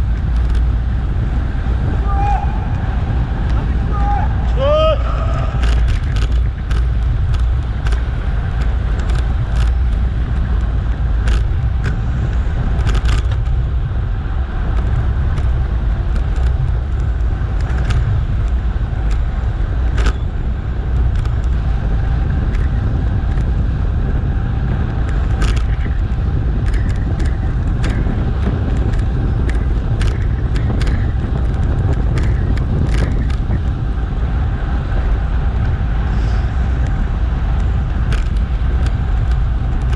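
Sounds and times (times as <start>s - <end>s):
bicycle clicks and rattles: 0.0s - 39.9s
wind rumbling on microphone: 0.0s - 39.9s.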